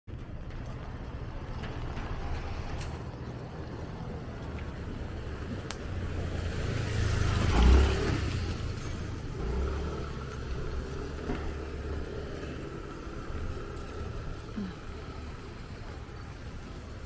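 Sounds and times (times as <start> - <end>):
vehicle passing on wet street: 0.1 - 17.0.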